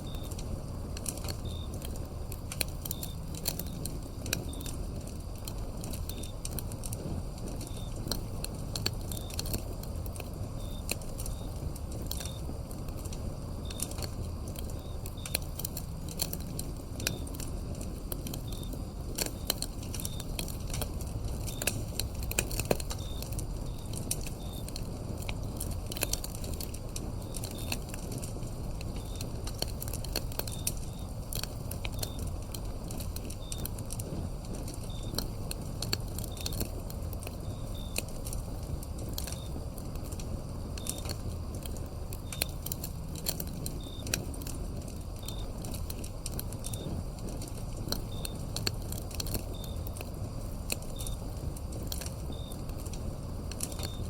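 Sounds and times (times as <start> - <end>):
cricket chirping: 0.0 - 54.0
low steady rumble: 0.0 - 54.0
wood fire crackling and popping: 0.0 - 54.0.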